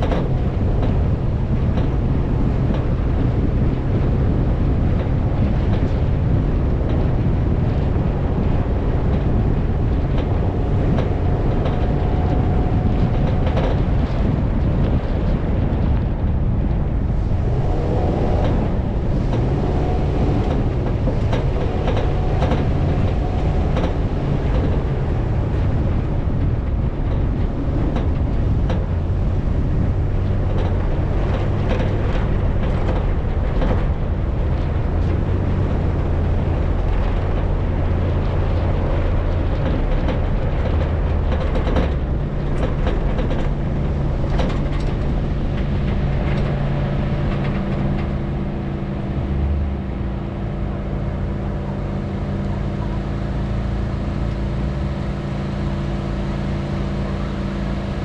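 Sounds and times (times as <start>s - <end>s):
off-road vehicle engine droning: 0.0s - 58.0s
vehicle knocks and rattles: 0.0s - 58.0s.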